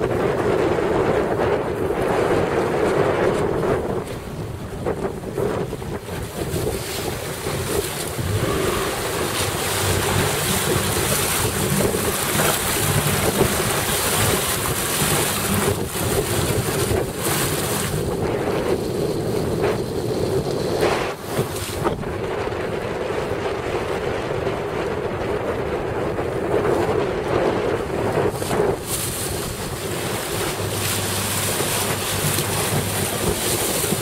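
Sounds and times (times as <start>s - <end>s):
choppy sea water: 0.0s - 34.0s
wind buffeting microphone: 0.0s - 34.0s.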